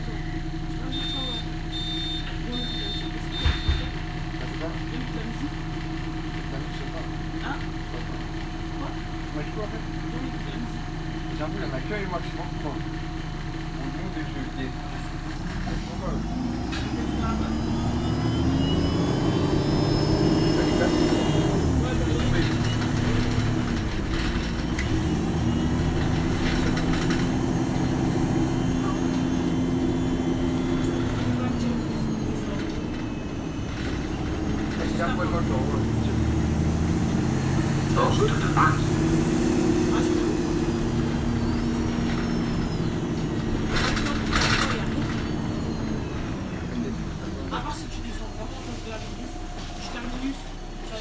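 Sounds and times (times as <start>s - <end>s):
bus engine droning: 0.0s - 51.0s.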